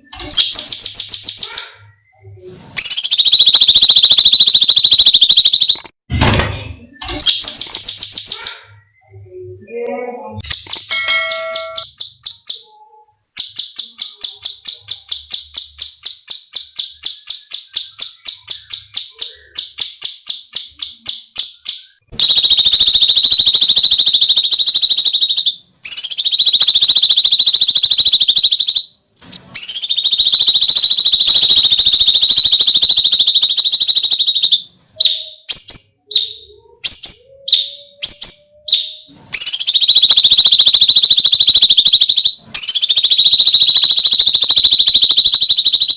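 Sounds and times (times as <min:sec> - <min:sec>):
bird chirping and screeching: 0:00.0 - 0:09.2, 0:10.4 - 0:20.0, 0:21.4 - 0:45.9.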